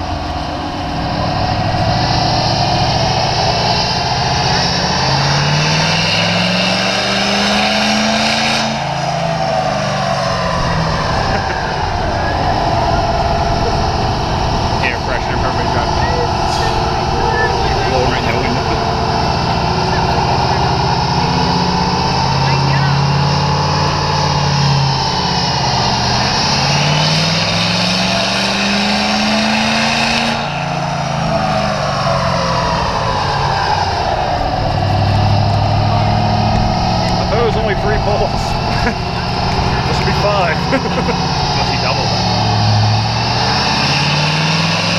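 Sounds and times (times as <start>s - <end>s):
diesel truck engine running hard: 0.0s - 44.9s
high whine: 0.0s - 44.9s.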